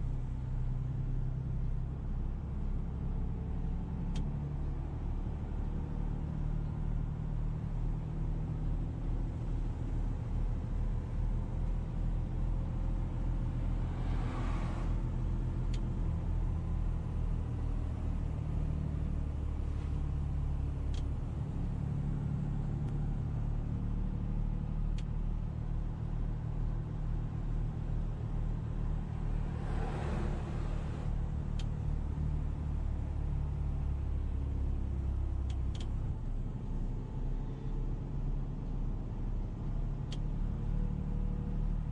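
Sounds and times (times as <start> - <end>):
road noise: 0.0 - 41.9.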